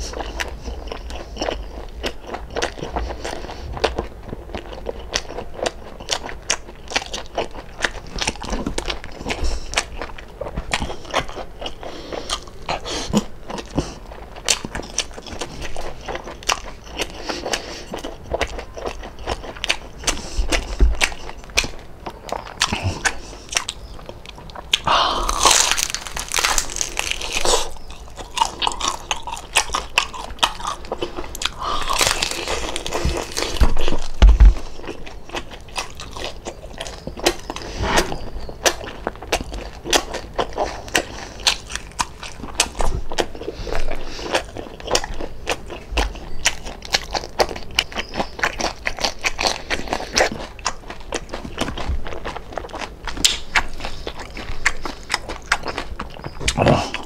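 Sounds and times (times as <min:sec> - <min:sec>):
chewing crispy food: 0:00.0 - 0:57.0.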